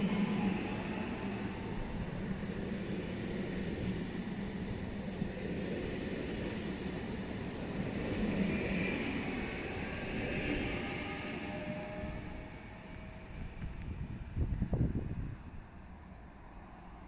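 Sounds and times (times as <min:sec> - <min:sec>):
electric train humming and rumbling: 0:00.0 - 0:17.0.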